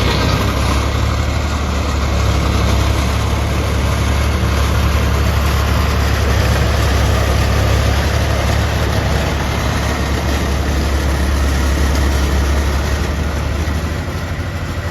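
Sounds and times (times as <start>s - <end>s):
diesel engine droning: 0.0s - 14.9s.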